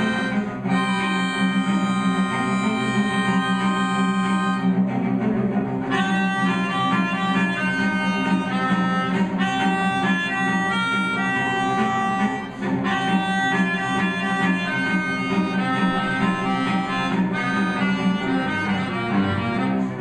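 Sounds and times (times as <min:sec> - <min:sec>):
melodica playing quick notes: 0:00.0 - 0:04.8, 0:05.9 - 0:20.0
cello sustained low notes: 0:00.0 - 0:20.0.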